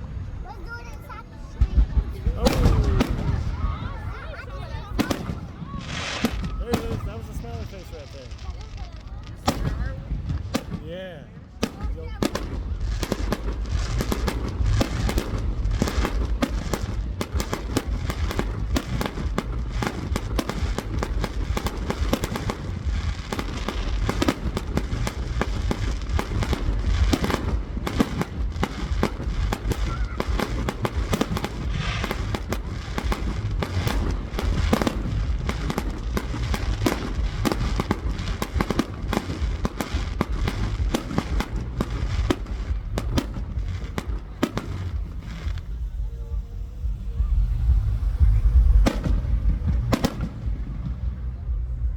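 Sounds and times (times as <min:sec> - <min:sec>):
fireworks cracks pops and booms: 0:00.0 - 0:51.9
low rumble: 0:01.5 - 0:04.2, 0:11.4 - 0:51.9.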